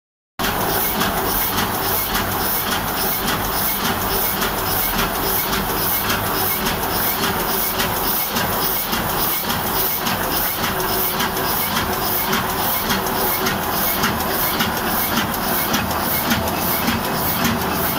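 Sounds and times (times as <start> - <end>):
printing press clattering: 0.4 - 17.9.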